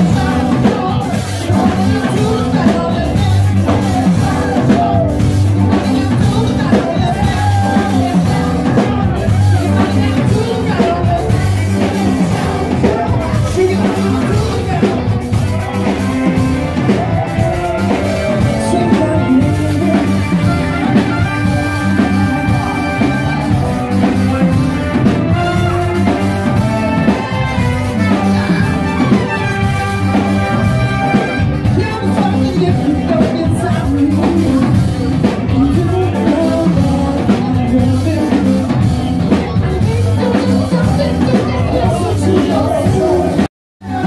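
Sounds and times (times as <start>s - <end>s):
drum kit: 0.0s - 44.0s
electric guitar: 0.0s - 44.0s
horn notes: 0.0s - 44.0s.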